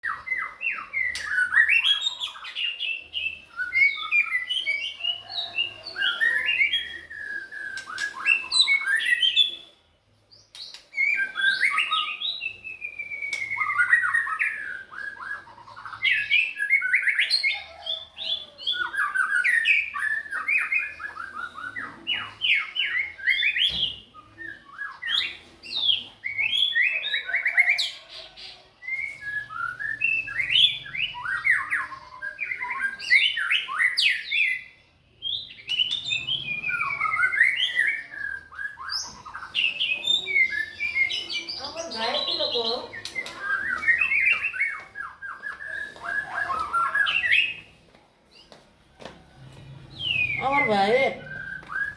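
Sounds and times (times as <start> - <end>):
songbird singing: 0.0 - 51.9.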